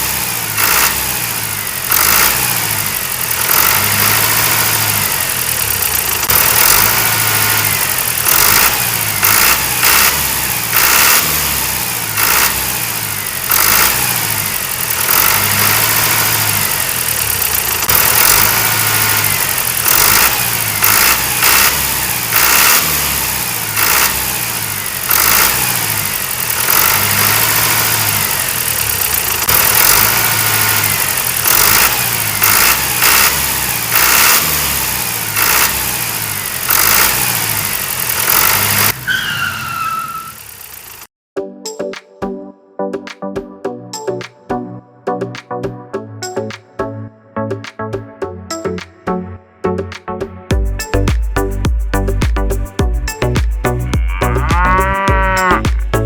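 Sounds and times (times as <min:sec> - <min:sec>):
small tractor engine revving: 0:00.0 - 0:41.1, 0:50.7 - 0:56.0.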